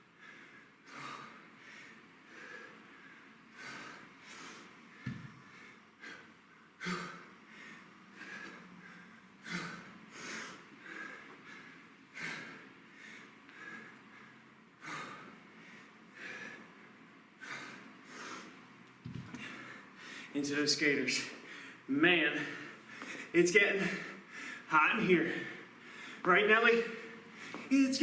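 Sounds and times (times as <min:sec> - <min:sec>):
man breathing hard: 0:00.0 - 0:18.7, 0:19.3 - 0:20.4, 0:21.2 - 0:27.8.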